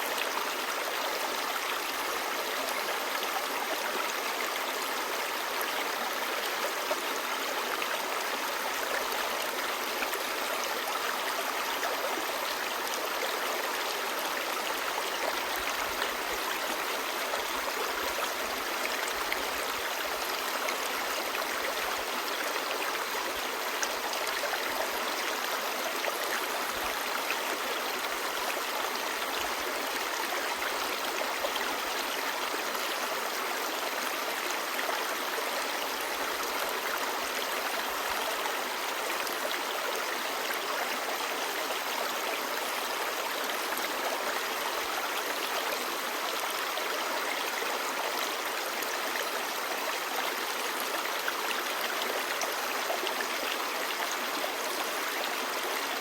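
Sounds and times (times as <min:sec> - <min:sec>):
stream babbling over stones: 0:00.1 - 0:56.0.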